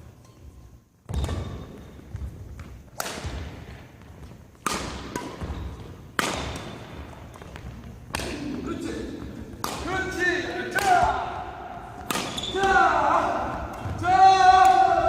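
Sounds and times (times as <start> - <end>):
rackets hitting shuttlecock: 1.1 - 15.0.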